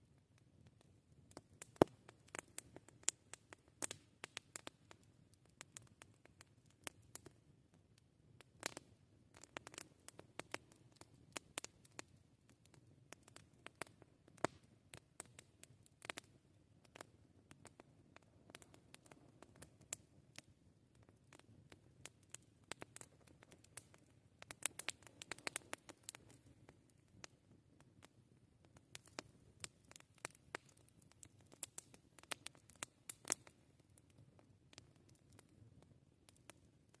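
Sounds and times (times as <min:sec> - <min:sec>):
campfire crackling and popping: 0:00.2 - 0:37.0.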